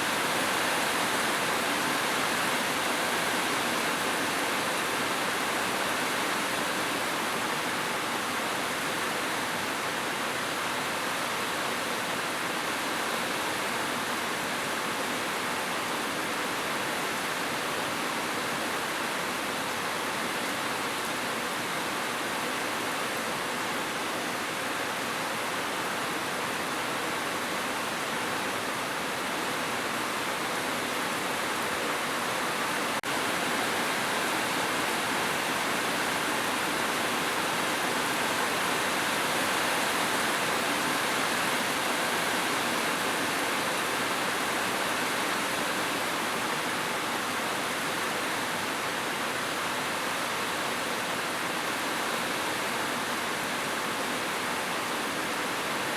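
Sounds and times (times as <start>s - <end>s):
heavy rain on a roof: 0.0s - 55.9s.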